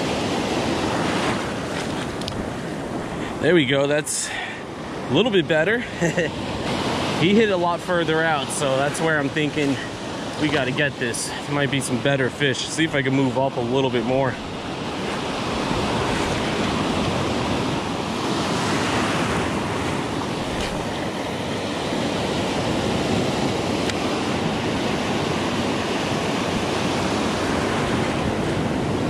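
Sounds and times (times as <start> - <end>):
waves breaking on a beach: 0.0 - 29.0.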